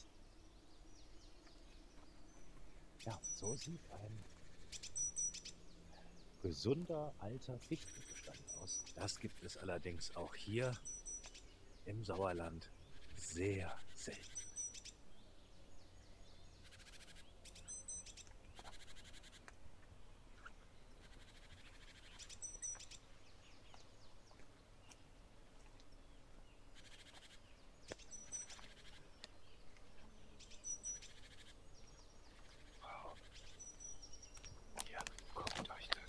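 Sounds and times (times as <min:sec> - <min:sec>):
small birds calling and trilling: 0:00.0 - 0:36.0.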